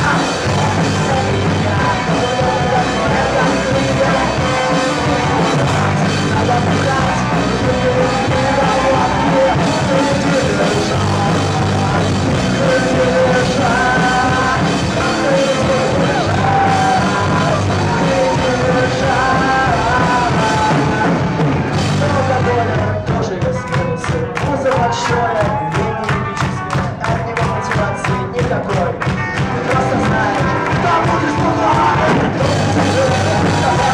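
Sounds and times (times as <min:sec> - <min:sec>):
drum kit: 0:00.0 - 0:33.9
live rock band playing: 0:00.0 - 0:33.9.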